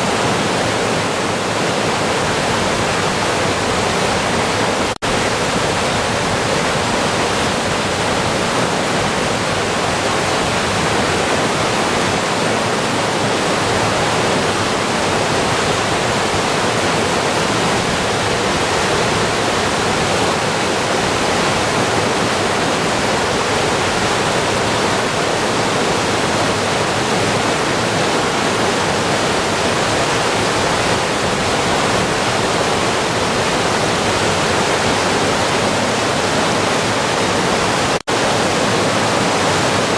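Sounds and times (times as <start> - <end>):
river rushing with loud roar: 0.0 - 39.9.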